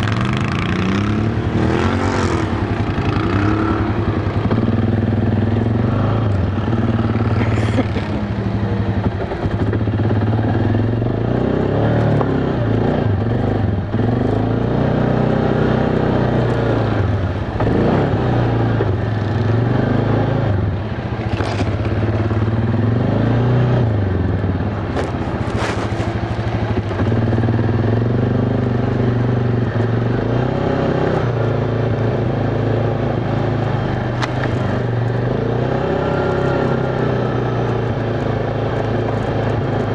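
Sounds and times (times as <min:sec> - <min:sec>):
knocks and clatters over bumps: 0:00.0 - 0:14.6, 0:15.8 - 0:22.9, 0:24.2 - 0:30.2, 0:33.5 - 0:35.4, 0:36.2 - 0:39.9
atv engine revving: 0:00.0 - 0:39.9.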